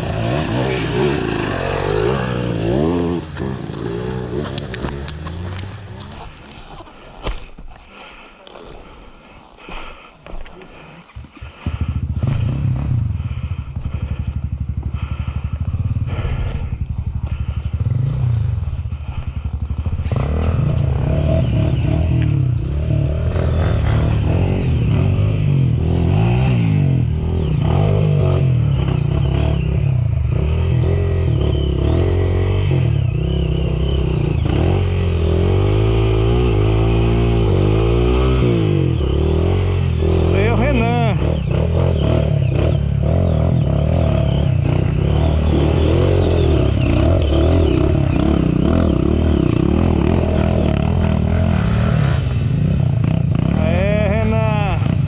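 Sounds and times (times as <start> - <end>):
dirt bike engine revving: 0.0 - 6.6, 11.2 - 55.0.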